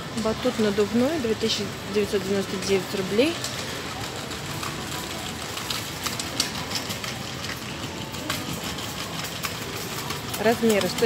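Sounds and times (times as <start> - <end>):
supermarket background noise: 0.0 - 11.0.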